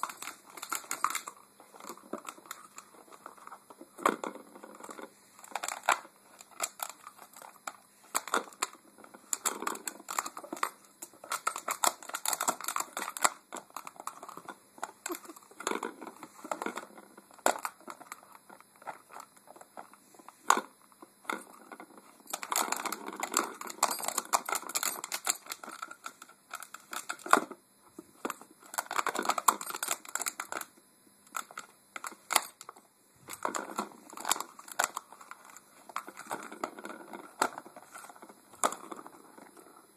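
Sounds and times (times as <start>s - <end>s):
plastic toy scratching and clicking: 0.0s - 27.6s, 28.2s - 30.7s, 31.3s - 39.8s.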